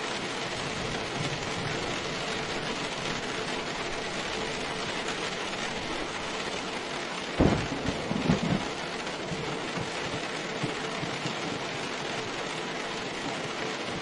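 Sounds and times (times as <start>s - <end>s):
steady rain: 0.0s - 14.0s
thunder clap rumbling: 0.4s - 6.5s, 7.2s - 14.0s.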